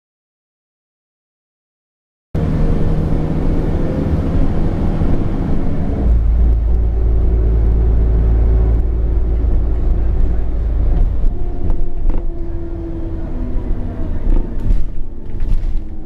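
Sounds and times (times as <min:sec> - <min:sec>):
bus engine and road rumble: 0:02.4 - 0:16.0.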